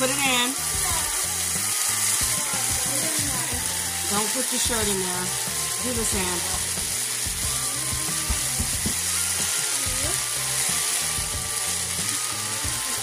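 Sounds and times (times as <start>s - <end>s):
meat and peppers sizzling in a wok: 0.0s - 13.0s.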